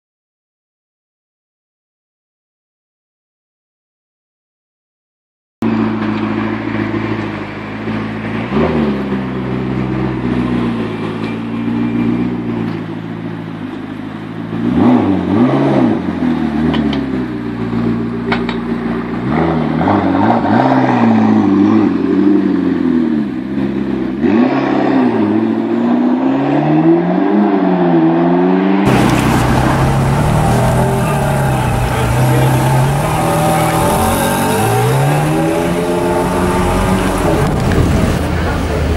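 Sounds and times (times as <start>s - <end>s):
car engine idling and revving: 5.6s - 38.9s.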